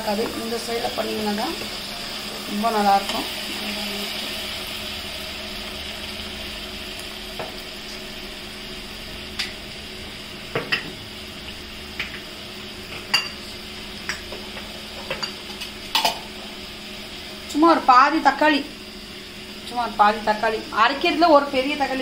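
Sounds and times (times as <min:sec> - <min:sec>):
spices sizzling in oil: 0:00.0 - 0:22.0.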